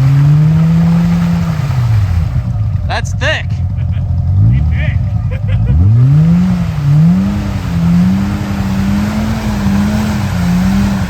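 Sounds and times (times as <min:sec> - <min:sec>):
utv engine revving hard: 0:00.0 - 0:02.9, 0:03.6 - 0:11.0.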